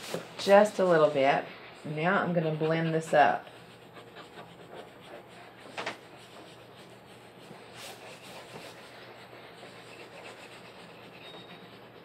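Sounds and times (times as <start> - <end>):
crayon scratching on paper: 0.0 - 12.0.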